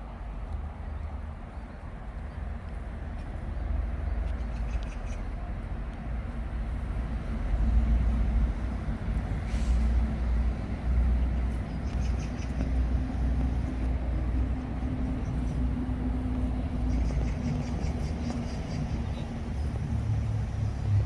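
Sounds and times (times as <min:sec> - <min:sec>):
distant city traffic rumble: 0:00.0 - 0:21.0.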